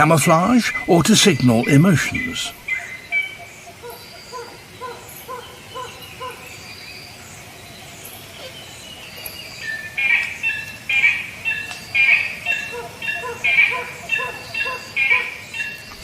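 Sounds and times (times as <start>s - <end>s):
high bird chirping: 0.0s - 7.1s, 8.1s - 16.0s.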